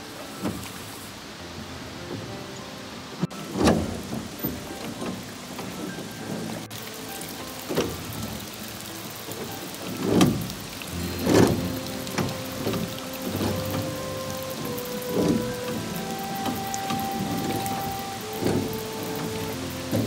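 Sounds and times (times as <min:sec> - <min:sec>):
faint sustained musical tones: 0:00.0 - 0:20.0
waterfall rushing and splashing: 0:00.0 - 0:20.0.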